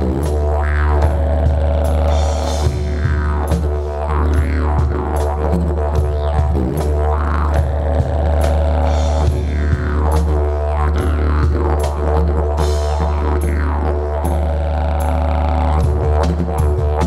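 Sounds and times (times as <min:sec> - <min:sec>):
didgeridoo drone: 0:00.0 - 0:17.0.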